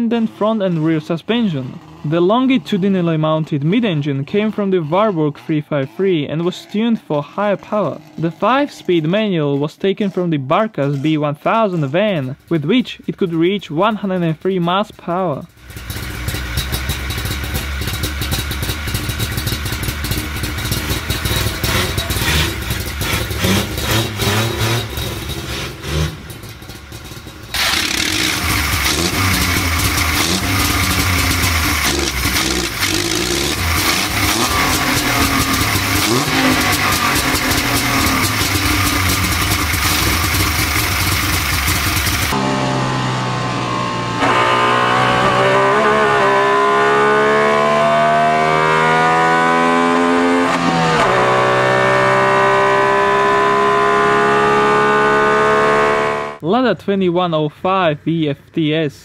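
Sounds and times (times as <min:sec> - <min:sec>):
two-stroke engine revving: 0:00.0 - 0:09.3, 0:15.5 - 0:56.4.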